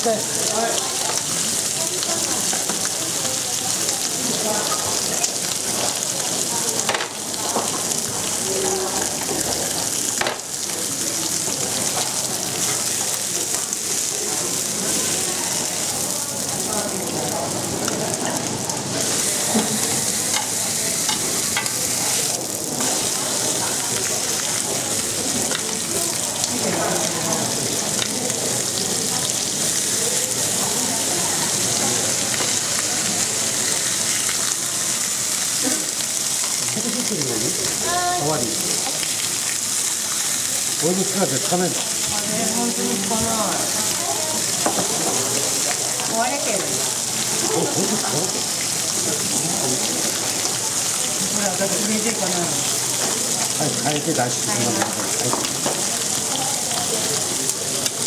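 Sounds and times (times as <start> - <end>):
steaks sizzling on a grill pan: 0.0 - 58.0.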